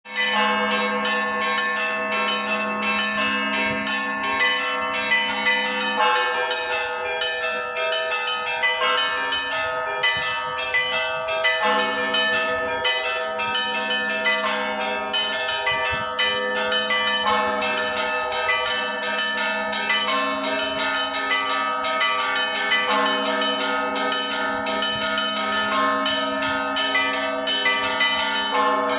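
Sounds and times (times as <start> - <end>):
small church bells ringing: 0.0 - 28.9
hum of large low bells: 0.1 - 28.9.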